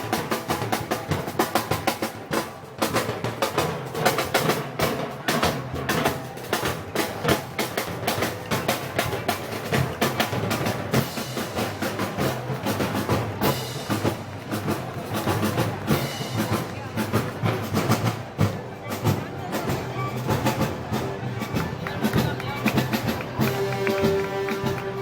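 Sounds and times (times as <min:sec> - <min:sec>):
crowd voices: 0:00.0 - 0:25.0
snare and bass drum: 0:00.0 - 0:25.0
street band music: 0:00.0 - 0:25.0.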